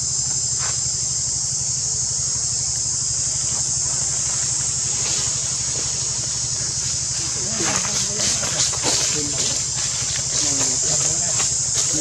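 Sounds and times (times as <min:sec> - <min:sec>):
high-pitched insect drone: 0:00.0 - 0:12.0
low pulsing engine hum: 0:00.0 - 0:12.0.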